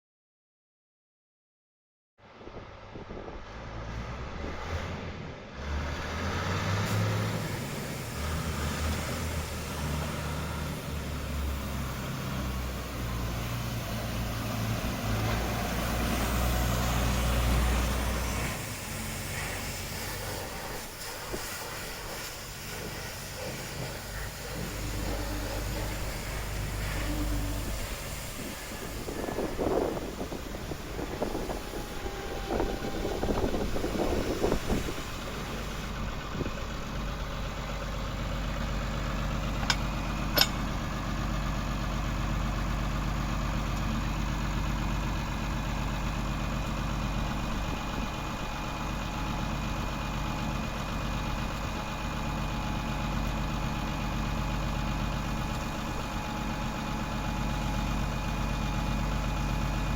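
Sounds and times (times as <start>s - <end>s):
tractor diesel engine idling: 6.8s - 59.9s.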